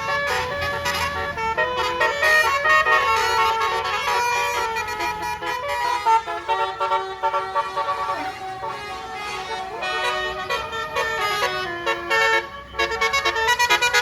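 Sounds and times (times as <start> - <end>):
bus air horn playing a tune: 0.0 - 14.0.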